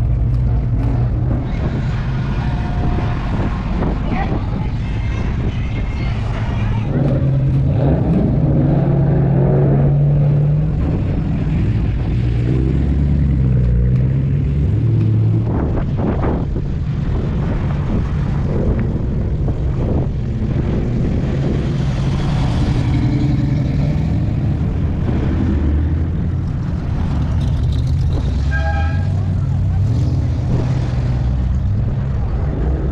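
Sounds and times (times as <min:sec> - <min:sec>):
car engines driving past: 0:00.0 - 0:32.9.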